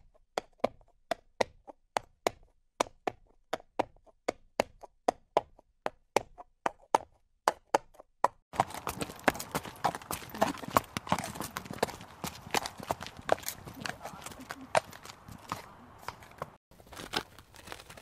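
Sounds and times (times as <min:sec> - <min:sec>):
horse hooves clip-clopping: 0:01.4 - 0:18.0.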